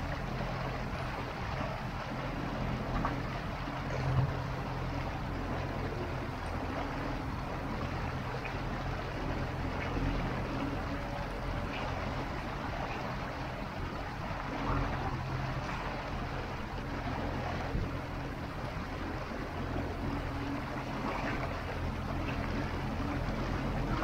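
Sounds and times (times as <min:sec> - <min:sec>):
outboard motor running: 0:00.0 - 0:24.0
water washing along hull: 0:00.0 - 0:24.0.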